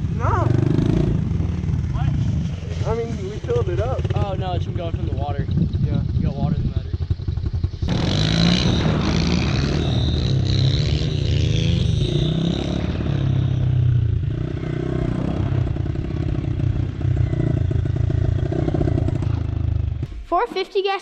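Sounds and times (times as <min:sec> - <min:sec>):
small motorcycle engine revving: 0:00.0 - 0:20.0.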